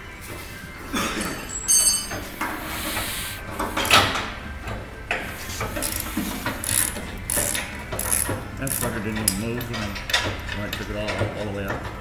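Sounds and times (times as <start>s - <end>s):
metal parts clanking and scraping: 1.1s - 4.4s, 5.4s - 12.0s.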